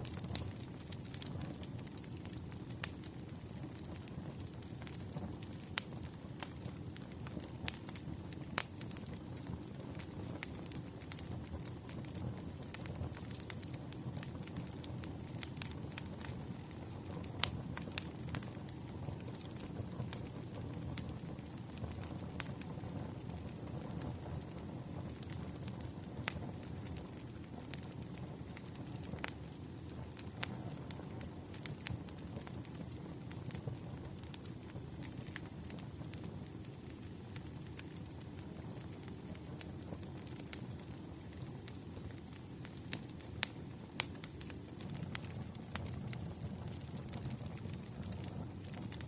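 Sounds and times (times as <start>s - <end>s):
firewood crackling pops: 0.0s - 49.0s
flames rustling: 0.0s - 49.0s.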